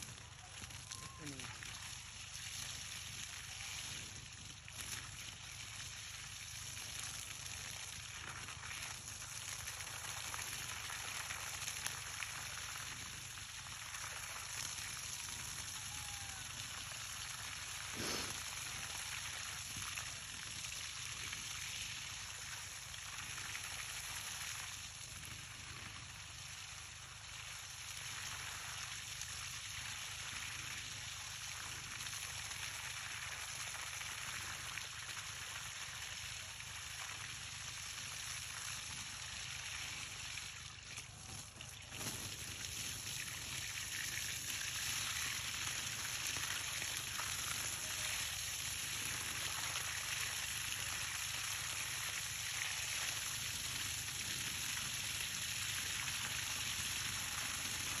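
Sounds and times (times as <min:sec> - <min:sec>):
water gushing from hose onto soil: 0:00.0 - 0:58.0.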